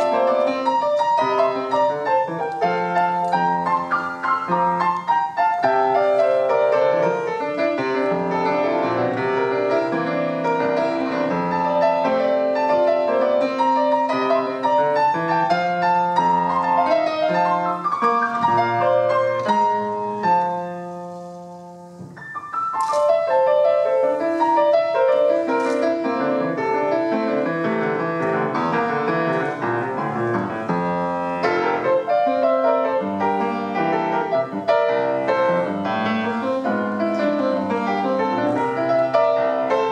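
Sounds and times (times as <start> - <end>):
solo grand piano playing: 0.0 - 39.9.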